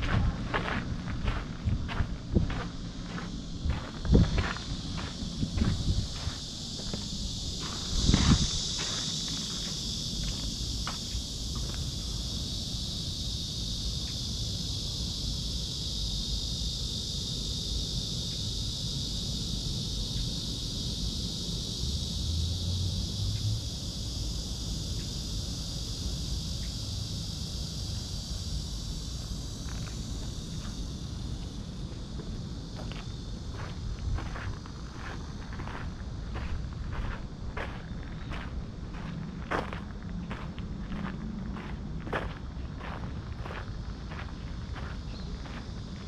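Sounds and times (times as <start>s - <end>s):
insects buzzing: 0.0s - 46.0s.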